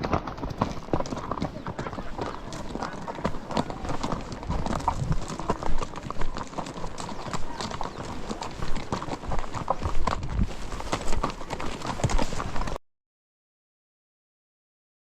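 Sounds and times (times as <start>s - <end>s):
horse hooves clip-clopping: 0.0s - 12.8s.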